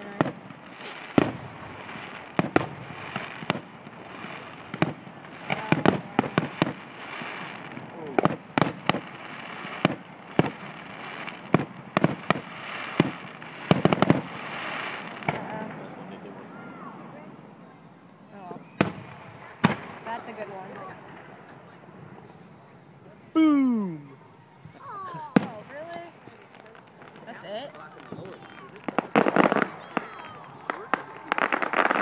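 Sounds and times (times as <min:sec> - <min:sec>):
fireworks bursting: 0:00.0 - 0:32.0
steady background hiss: 0:00.0 - 0:32.0.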